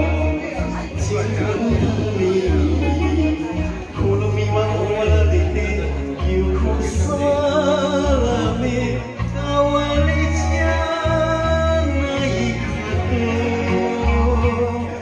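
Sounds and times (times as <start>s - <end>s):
karaoke backing track: 0.0s - 15.0s
man singing into microphone: 0.0s - 15.0s.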